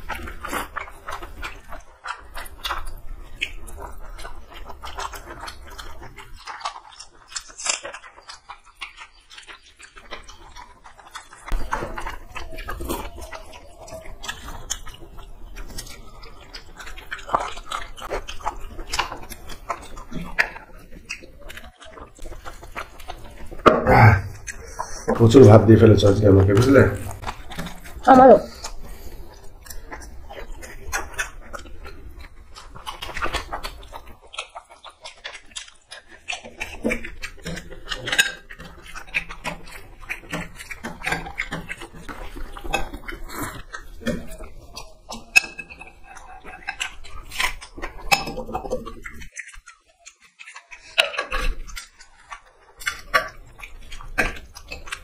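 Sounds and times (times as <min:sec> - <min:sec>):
chewing and lip smacks: 0:00.0 - 0:55.0
food squished by hand: 0:00.0 - 0:55.0.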